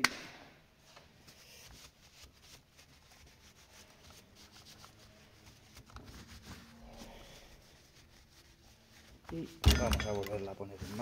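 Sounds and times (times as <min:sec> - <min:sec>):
faint rubbing and scuffing: 0:00.8 - 0:09.6, 0:10.4 - 0:11.0.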